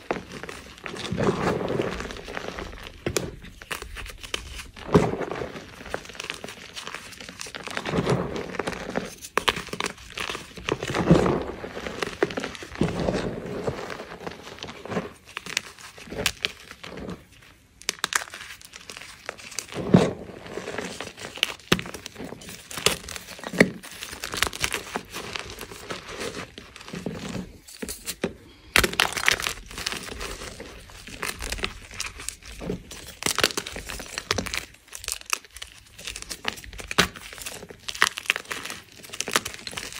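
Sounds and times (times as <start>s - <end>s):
hands crushing chalk: 0.0s - 39.9s.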